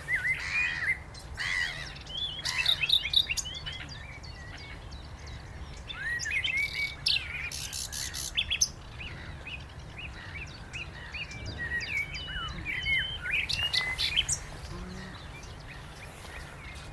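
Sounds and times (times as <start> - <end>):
nightingale singing: 0.0 - 16.9.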